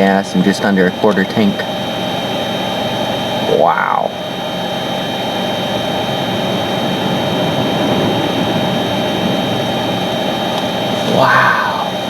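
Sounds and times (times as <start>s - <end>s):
blizzard wind rushing: 1.8s - 12.0s.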